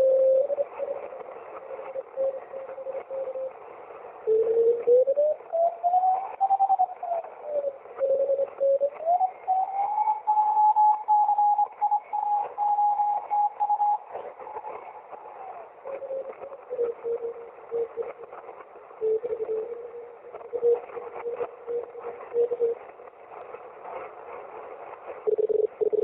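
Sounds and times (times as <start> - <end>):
radio whistling tone: 0.0 - 3.6, 4.2 - 23.0
radio static crackle: 0.0 - 5.2, 10.2 - 26.0.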